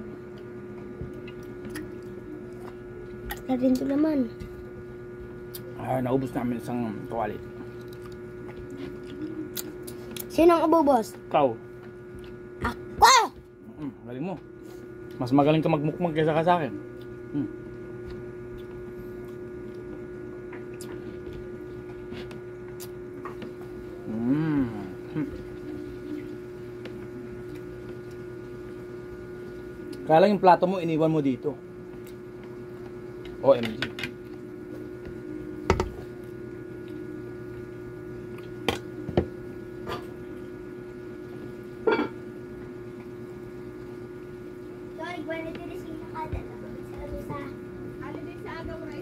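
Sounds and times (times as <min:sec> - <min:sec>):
electrical hum: 0:00.0 - 0:49.0.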